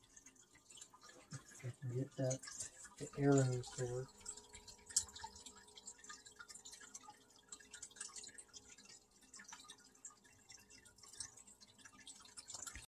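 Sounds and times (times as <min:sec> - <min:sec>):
faint steady hum: 0:00.0 - 0:12.8
faint irregular clicks: 0:00.0 - 0:12.9.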